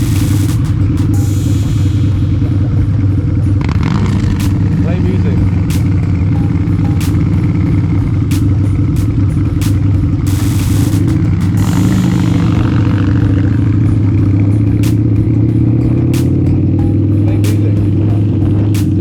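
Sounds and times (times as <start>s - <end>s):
motorcycle engine running: 0.0s - 19.0s
rush of noise: 0.0s - 19.0s.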